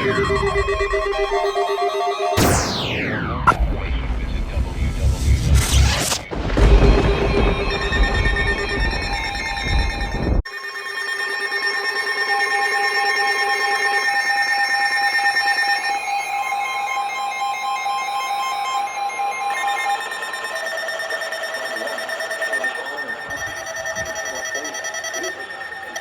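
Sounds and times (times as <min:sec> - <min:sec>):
weather radio alarms: 0:00.0 - 0:10.5, 0:11.9 - 0:26.0.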